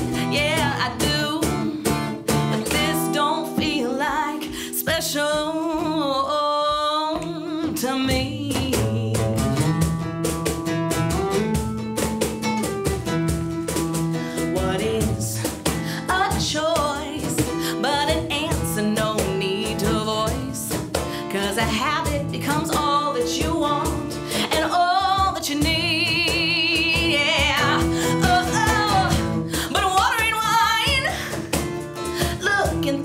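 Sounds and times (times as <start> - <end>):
cajon drumming: 0.0 - 6.0, 7.2 - 33.0
woman singing: 0.0 - 10.1, 14.1 - 33.0
acoustic guitar: 0.0 - 33.0.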